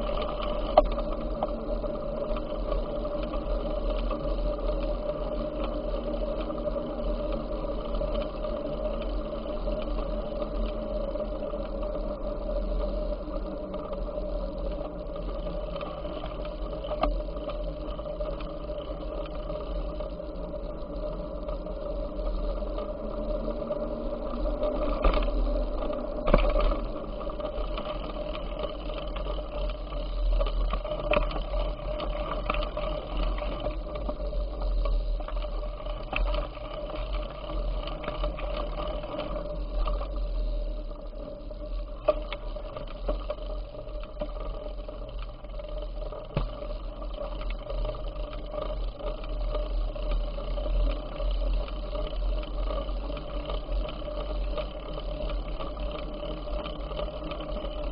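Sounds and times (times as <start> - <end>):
bicycle riding whir: 0.0 - 57.9.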